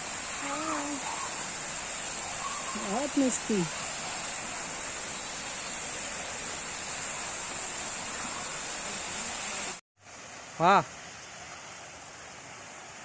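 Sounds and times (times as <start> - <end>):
high-pitched hiss: 0.0 - 13.0
waterfall rushing: 0.0 - 13.0.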